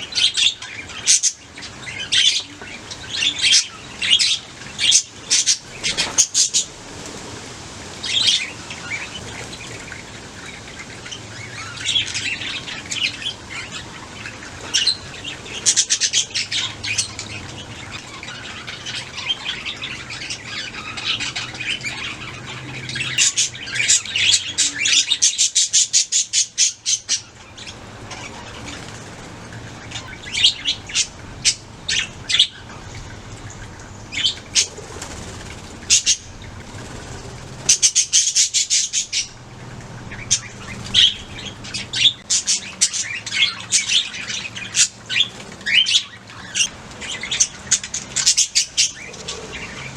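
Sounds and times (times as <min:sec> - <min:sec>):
budgerigars chirping: 0:00.0 - 0:06.7, 0:08.0 - 0:49.9.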